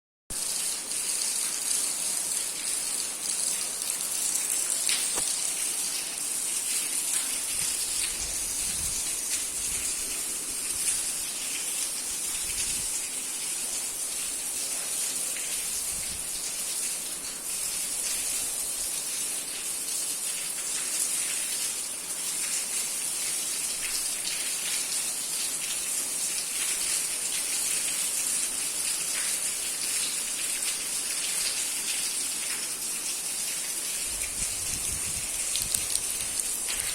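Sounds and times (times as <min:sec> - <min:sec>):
rain pouring: 0:00.3 - 0:36.9.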